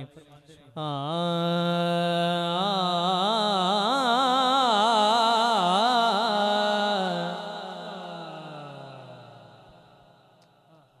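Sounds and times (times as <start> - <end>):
man singing long held note: 0.8 - 9.8.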